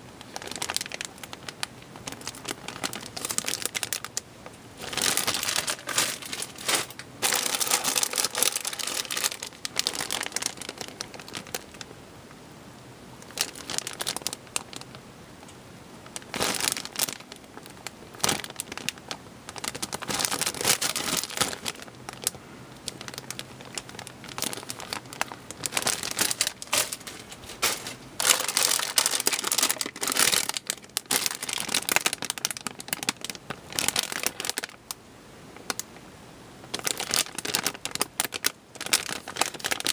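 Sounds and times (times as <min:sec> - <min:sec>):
plastic bags crinkling: 0:00.0 - 0:11.9, 0:13.2 - 0:34.9, 0:36.6 - 0:39.9.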